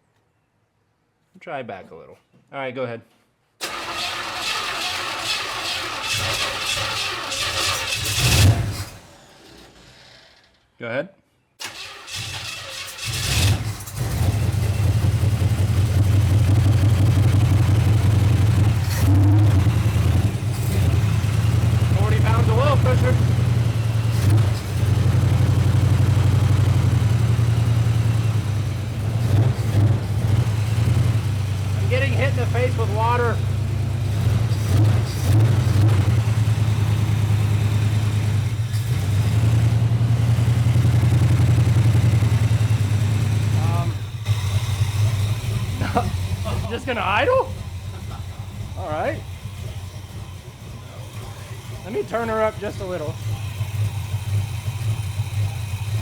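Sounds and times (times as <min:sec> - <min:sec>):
car engine starting and running: 0:03.6 - 0:10.7, 0:11.6 - 0:56.0.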